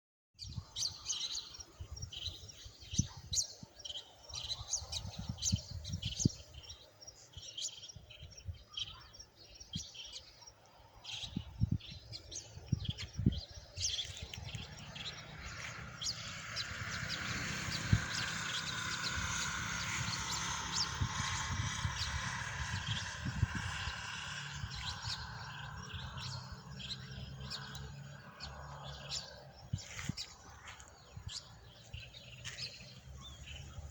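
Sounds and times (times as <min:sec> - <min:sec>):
birds chirping: 0:00.4 - 0:33.9.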